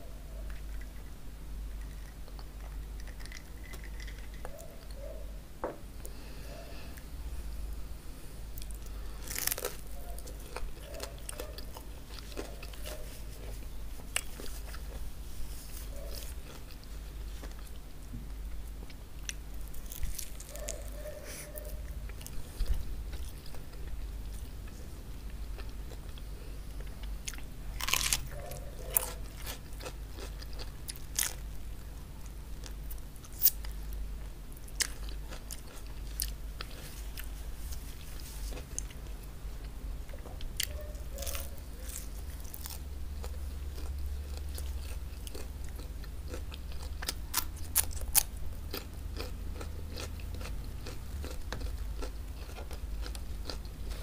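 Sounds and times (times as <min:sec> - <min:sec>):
chewing and crunching fried chicken: 0:00.0 - 0:05.3, 0:08.5 - 0:54.0.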